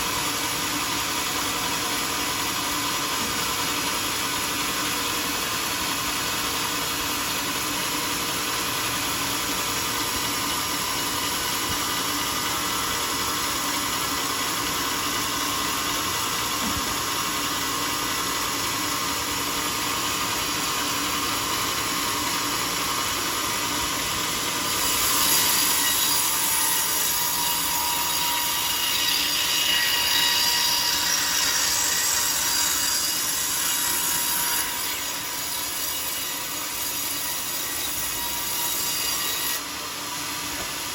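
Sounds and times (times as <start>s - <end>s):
saw blade cutting log: 0.0s - 40.9s
sawmill running with faint whine: 0.0s - 40.9s.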